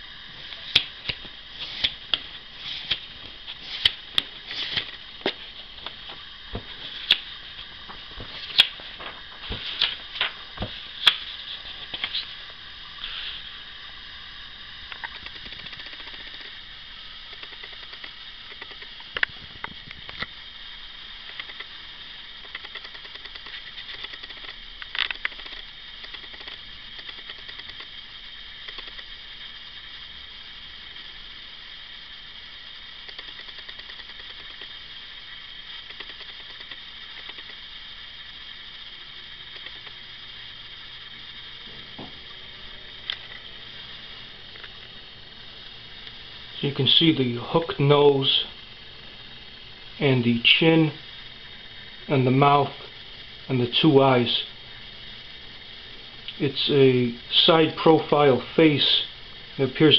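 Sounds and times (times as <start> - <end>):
camera microphone hiss: 0.0 - 59.9.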